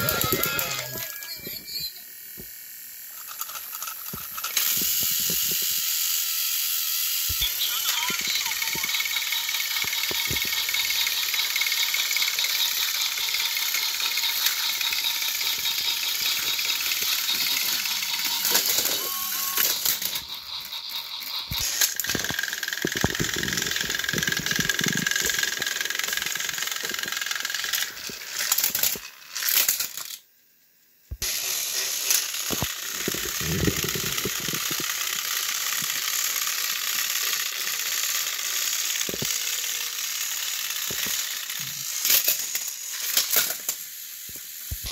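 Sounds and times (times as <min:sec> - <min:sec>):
toy train motors whirring and rattling: 0:00.0 - 0:30.6, 0:31.2 - 0:44.9.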